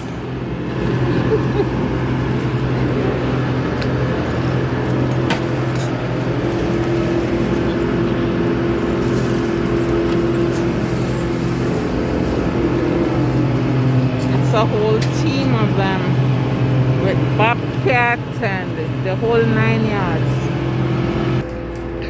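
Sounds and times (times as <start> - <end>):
large engine running: 0.0 - 22.0.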